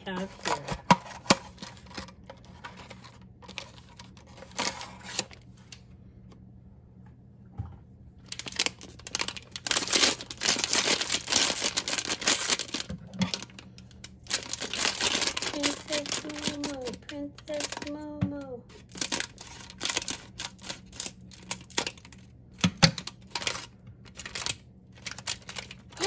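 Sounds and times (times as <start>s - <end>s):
foil bag crinkling: 0.0s - 5.7s, 8.2s - 26.0s.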